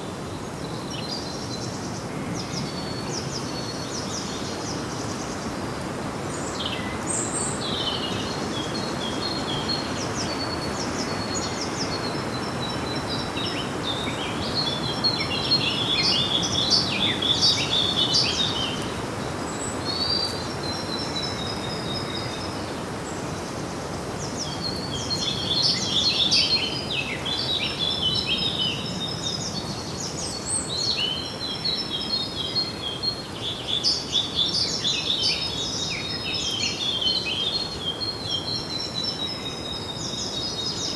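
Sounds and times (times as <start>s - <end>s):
songbirds chirping and trilling: 0.0s - 40.9s
steady background hiss: 0.0s - 40.9s.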